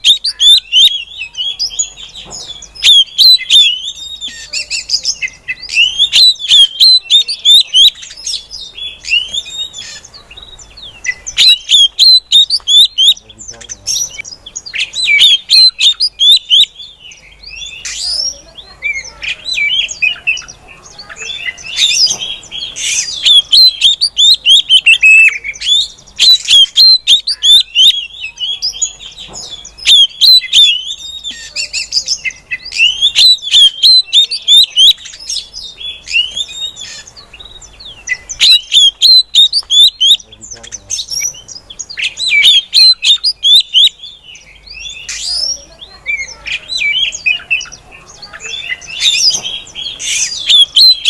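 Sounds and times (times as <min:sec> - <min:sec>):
bird sharp chirps: 0:00.0 - 0:51.0.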